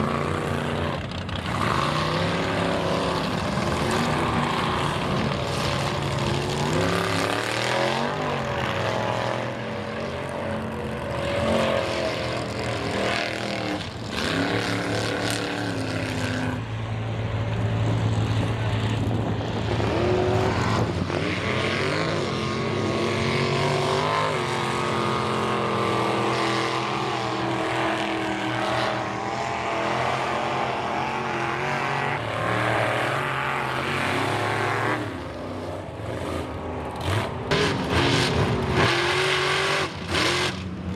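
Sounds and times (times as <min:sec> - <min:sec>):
truck engines revving hard: 0:00.0 - 0:40.9.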